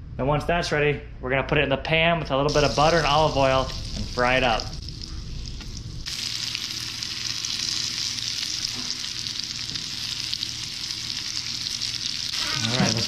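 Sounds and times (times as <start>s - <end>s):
fish frying in a skillet: 2.5s - 13.0s.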